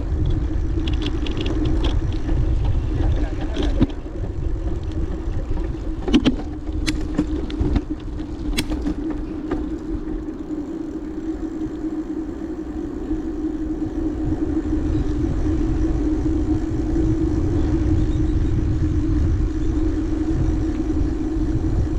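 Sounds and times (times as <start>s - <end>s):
bicycle clicks and rattles: 0.0s - 21.9s
steady hum: 0.0s - 21.9s
wind rumble: 0.0s - 21.9s.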